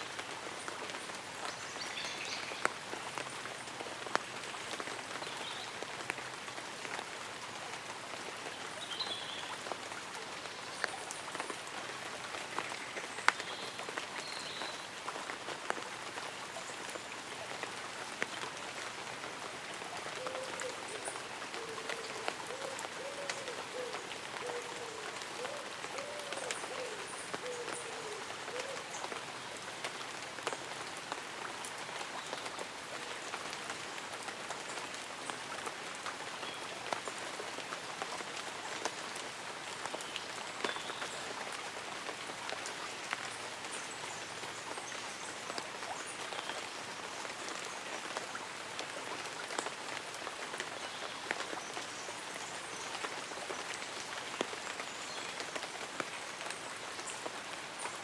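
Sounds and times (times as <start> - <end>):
light rain on leaves and umbrella: 0.0 - 58.0.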